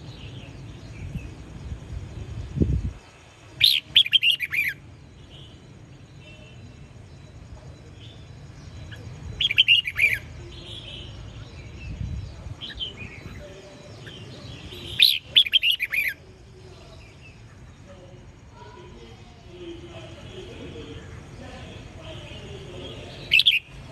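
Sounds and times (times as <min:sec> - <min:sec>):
bird chirping phrases: 0:00.0 - 0:23.9.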